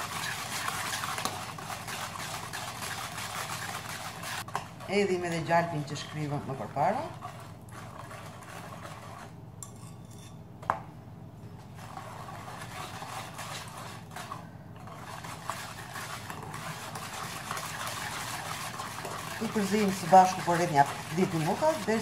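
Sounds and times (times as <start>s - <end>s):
whisk beating in bowl: 0.0s - 9.9s, 11.6s - 22.0s.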